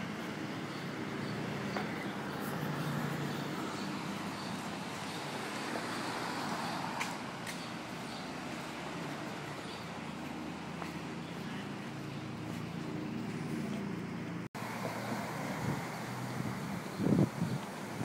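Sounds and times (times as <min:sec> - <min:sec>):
low traffic hum: 0:00.0 - 0:18.0.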